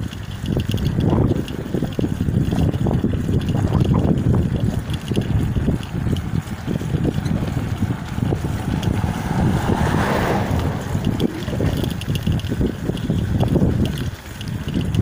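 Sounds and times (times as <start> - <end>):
passing vehicle tyre noise: 0.0 - 15.0
wind buffeting microphone: 0.0 - 15.0.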